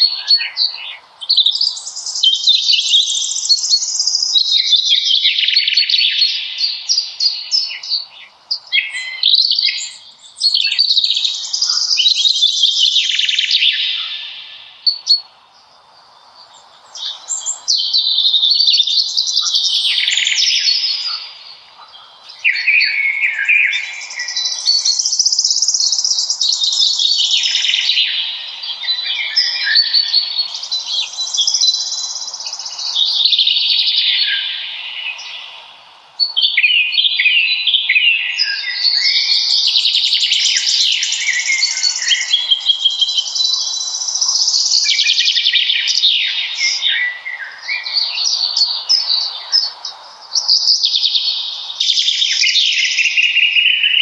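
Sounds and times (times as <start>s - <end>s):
songbirds warbling: 0.0s - 54.0s.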